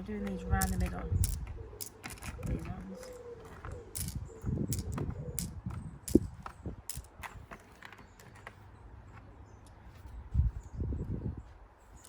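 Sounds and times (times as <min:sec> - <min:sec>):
small stones clicking: 0:00.1 - 0:09.8.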